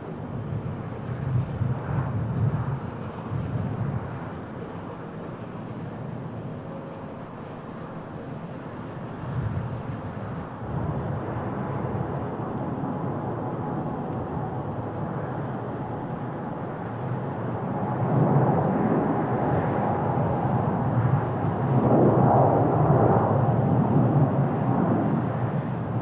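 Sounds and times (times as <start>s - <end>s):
jet airliner engine rumble: 0.0s - 26.0s.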